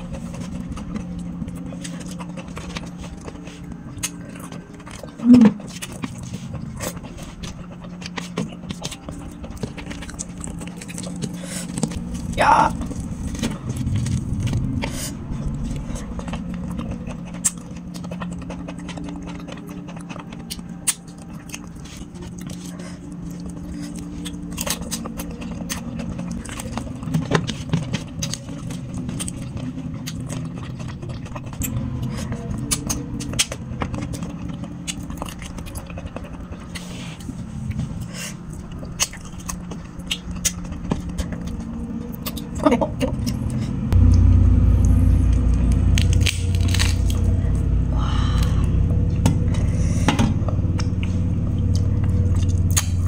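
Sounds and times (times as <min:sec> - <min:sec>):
chewing and biting: 0:00.0 - 0:44.0, 0:45.5 - 0:53.0
steady low drone: 0:00.0 - 0:53.0.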